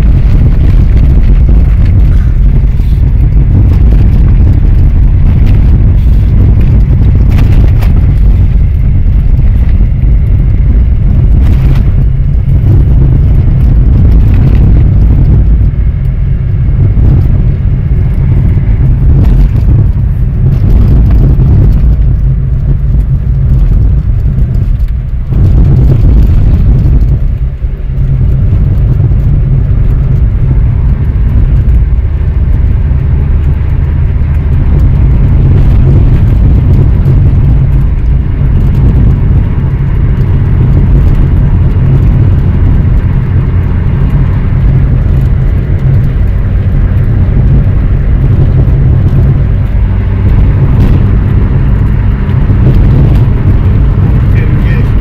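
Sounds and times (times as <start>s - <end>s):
car engine droning: 0.0s - 55.0s
road noise: 0.0s - 55.0s.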